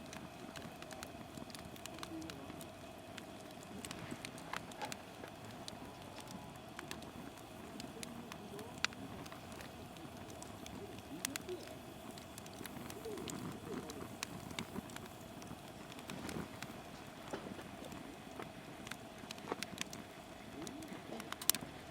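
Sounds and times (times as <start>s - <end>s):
firewood crackling and popping: 0.0s - 21.9s
low rush of flame: 0.0s - 21.9s.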